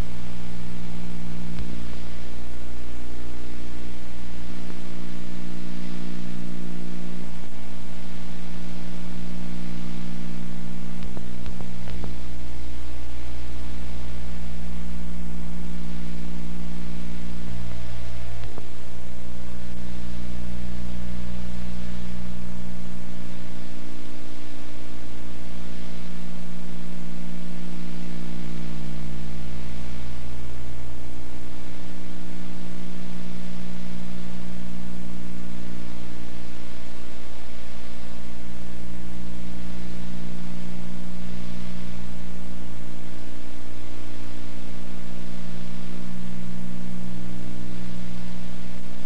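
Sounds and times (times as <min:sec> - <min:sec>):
electrical hum and buzz: 0:00.0 - 0:49.0
videotape hiss: 0:00.0 - 0:49.0.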